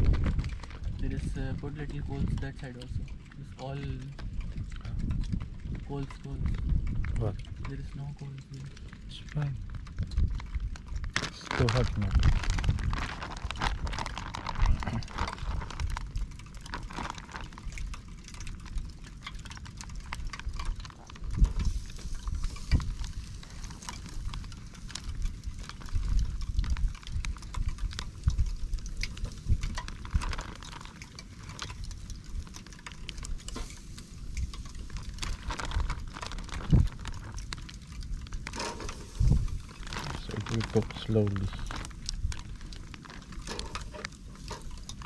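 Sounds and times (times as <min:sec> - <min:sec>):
charcoal clicks and knocks: 0:00.0 - 0:45.0
low rumble: 0:00.0 - 0:45.0.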